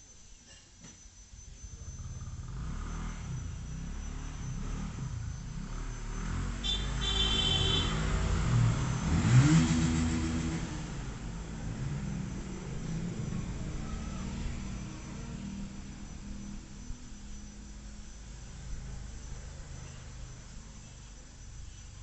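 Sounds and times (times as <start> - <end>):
vehicle engine rumbling: 1.7 - 22.0.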